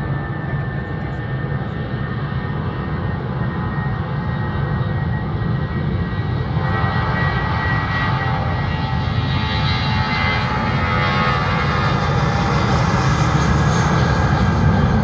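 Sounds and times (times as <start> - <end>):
jet engines rumbling and whining: 0.0 - 15.0.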